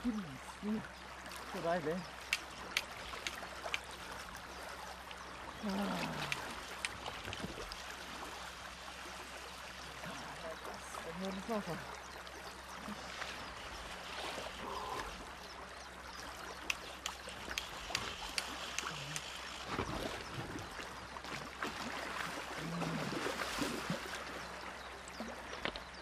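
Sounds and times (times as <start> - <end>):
river water running: 0.0 - 26.0.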